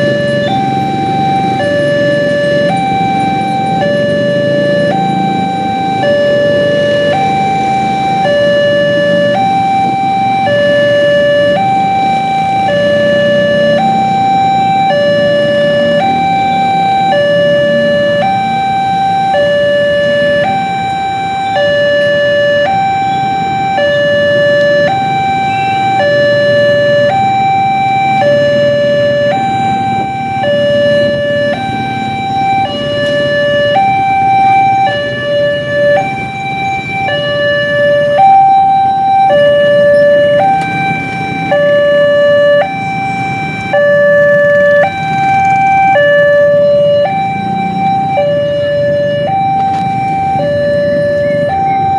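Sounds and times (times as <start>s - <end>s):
road traffic with motorcycles: 0.0s - 51.9s
two-tone crossing alarm: 0.0s - 51.9s.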